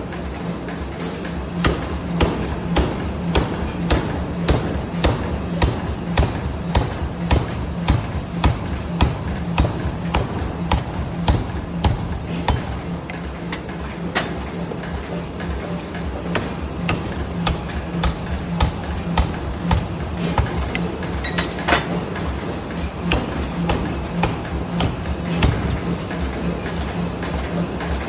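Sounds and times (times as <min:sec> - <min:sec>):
low machine hum: 0:00.0 - 0:28.0
pneumatic forging hammer striking: 0:01.6 - 0:14.4, 0:16.2 - 0:26.8.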